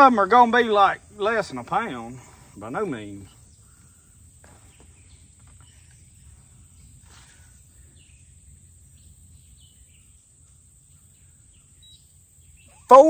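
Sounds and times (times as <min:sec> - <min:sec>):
low wind rumble: 0:00.0 - 0:12.8
falling bird chirps: 0:01.2 - 0:13.0.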